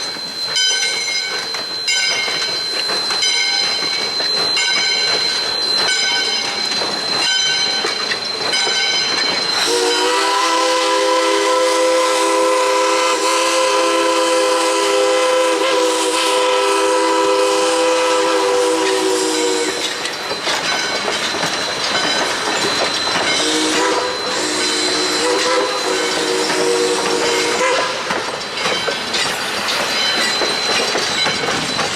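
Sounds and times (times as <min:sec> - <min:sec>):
steam locomotive chime whistle: 0:00.0 - 0:31.9.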